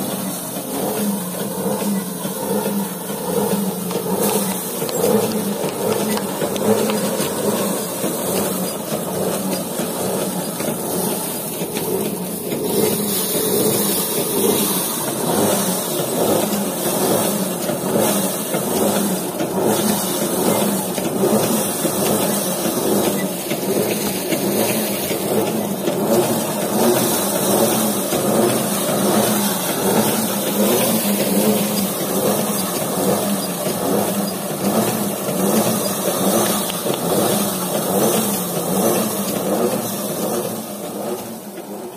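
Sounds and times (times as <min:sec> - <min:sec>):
thresher drum humming: 0:00.0 - 0:41.9.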